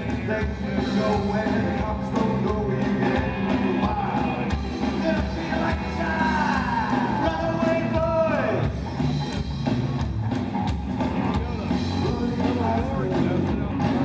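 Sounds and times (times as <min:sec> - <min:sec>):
person singing: 0:00.0 - 0:08.7, 0:11.2 - 0:14.0
drum kit: 0:00.0 - 0:14.0
electric guitar: 0:00.0 - 0:14.0.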